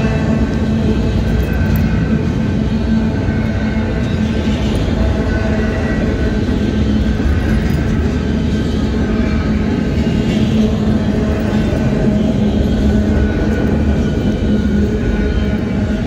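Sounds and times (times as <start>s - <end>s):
freight train wheels rumbling on rail: 0.0s - 16.0s.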